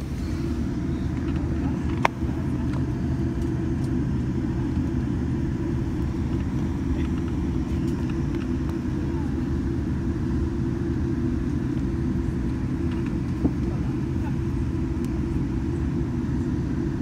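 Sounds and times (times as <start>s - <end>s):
airplane taxiing rumble: 0.0s - 17.0s
faint steady whine: 0.0s - 17.0s.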